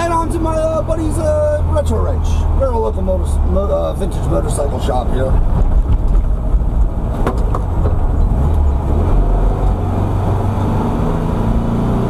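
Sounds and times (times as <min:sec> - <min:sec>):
car engine running: 0:00.0 - 0:11.9
road rumble: 0:00.0 - 0:12.0.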